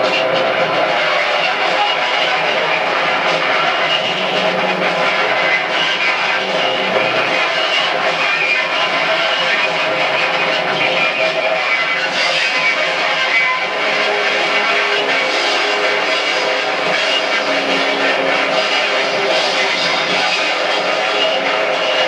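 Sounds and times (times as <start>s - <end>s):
electric guitar noise: 0.0s - 22.0s.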